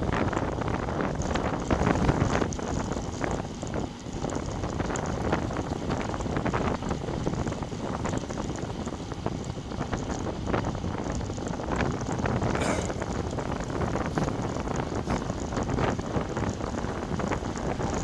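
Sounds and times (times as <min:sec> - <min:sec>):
road noise rumbling: 0:00.0 - 0:18.0
wind buffeting microphone: 0:00.0 - 0:18.0.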